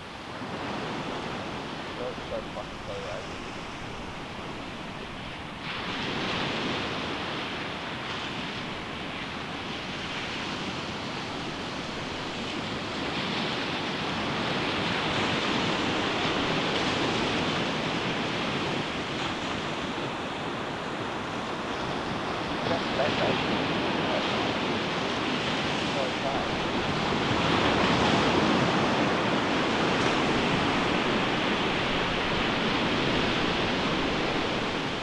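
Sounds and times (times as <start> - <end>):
ocean surf on a beach: 0.0 - 35.0.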